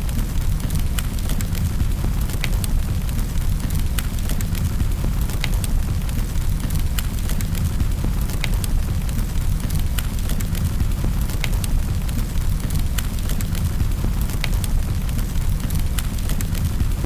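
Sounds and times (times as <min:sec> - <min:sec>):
fire pops: 0:00.0 - 0:17.0
wood fire crackling: 0:00.0 - 0:17.0.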